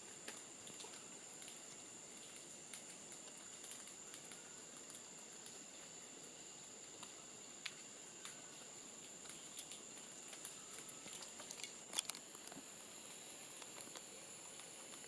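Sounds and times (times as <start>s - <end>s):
light ticks and patters: 0.0s - 15.0s.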